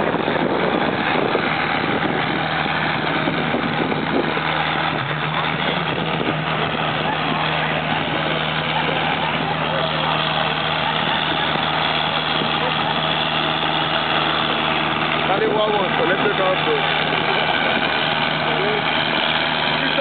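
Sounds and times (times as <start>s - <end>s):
tractor diesel engine idling: 0.0s - 20.0s.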